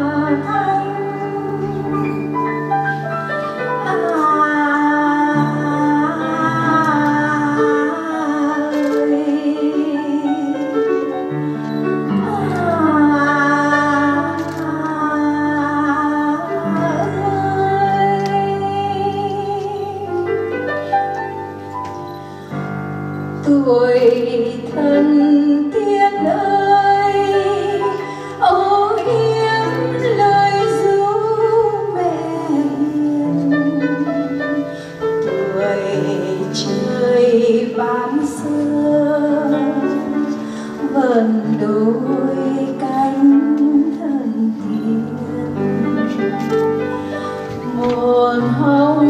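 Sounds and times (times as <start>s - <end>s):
woman singing a ballad: 0.0s - 2.4s, 3.7s - 11.2s, 12.1s - 20.5s, 23.4s - 49.0s
grand piano: 0.0s - 49.0s.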